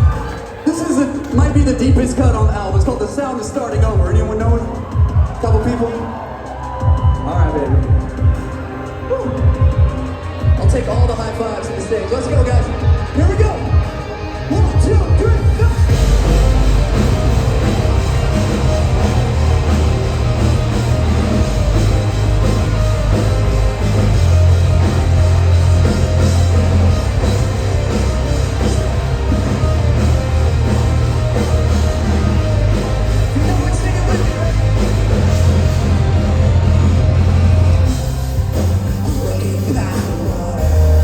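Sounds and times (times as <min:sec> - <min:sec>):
metal band playing: 0:00.0 - 0:41.0.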